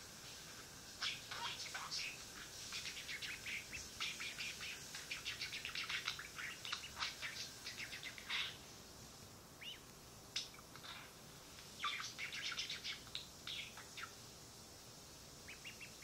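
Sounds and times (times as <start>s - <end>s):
birds chirping: 0.9s - 8.7s, 9.5s - 14.2s, 15.4s - 16.0s.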